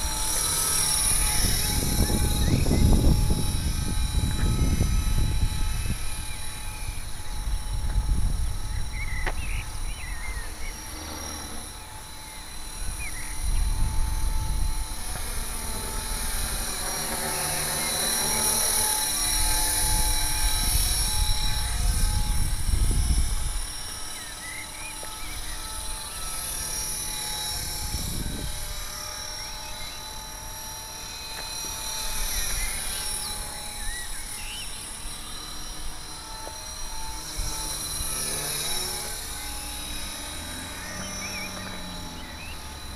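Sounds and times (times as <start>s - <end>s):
rc helicopter motor whine: 0.0s - 42.9s.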